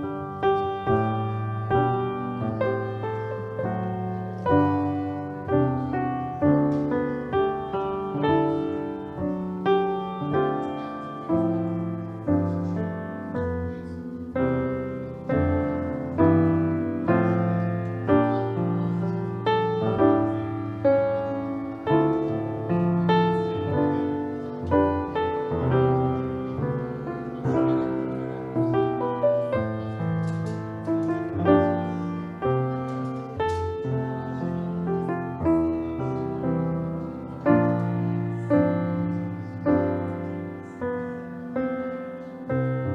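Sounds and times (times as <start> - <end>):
slow solo piano piece: 0.0 - 42.9.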